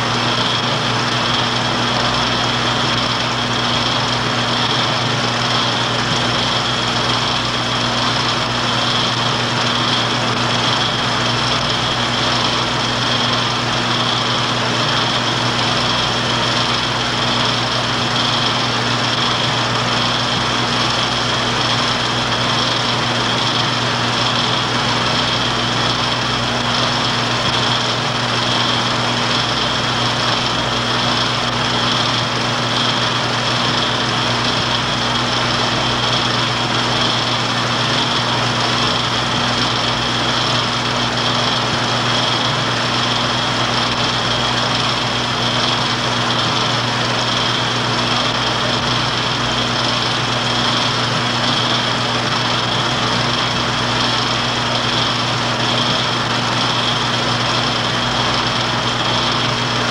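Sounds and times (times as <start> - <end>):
film projector whirring: 0.0 - 59.9.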